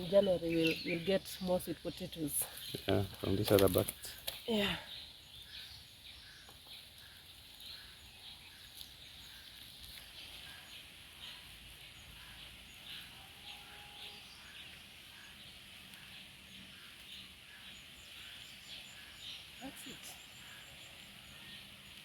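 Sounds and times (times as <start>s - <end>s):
birds and insects chorus: 0.0s - 22.0s.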